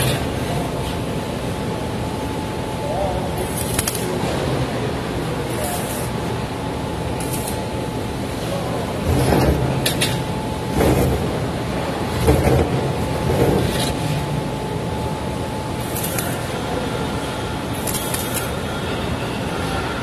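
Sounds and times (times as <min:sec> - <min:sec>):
machine hum with faint tone: 0:00.0 - 0:20.0.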